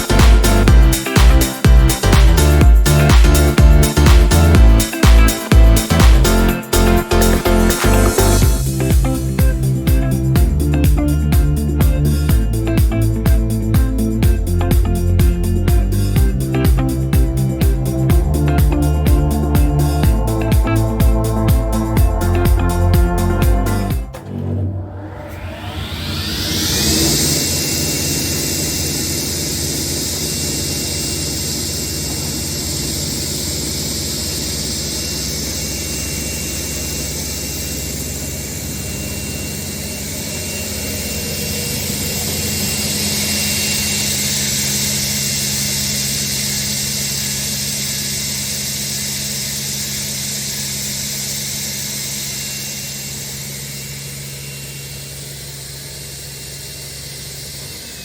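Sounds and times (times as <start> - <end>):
table saw running: 0.0 - 10.4, 17.0 - 58.0.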